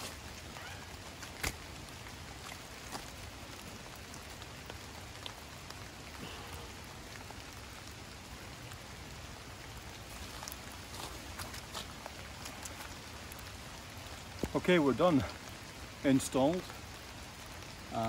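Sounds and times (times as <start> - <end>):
light rain falling: 0.0 - 18.0.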